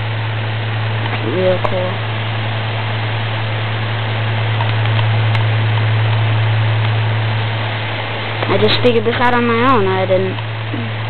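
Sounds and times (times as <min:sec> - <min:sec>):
electric fan motor hum: 0:00.0 - 0:11.0.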